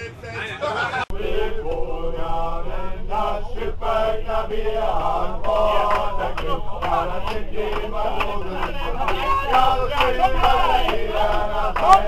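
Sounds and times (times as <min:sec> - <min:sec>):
train rumbling: 0:00.7 - 0:12.0
men singing a chant: 0:01.1 - 0:12.0.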